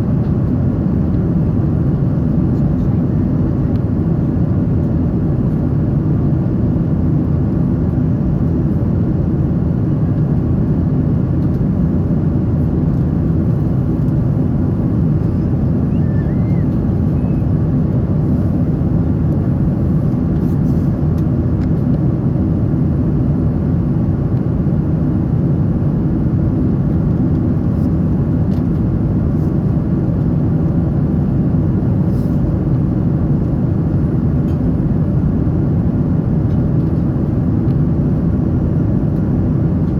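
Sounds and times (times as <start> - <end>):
airliner engines rumbling in cabin: 0.0 - 39.9.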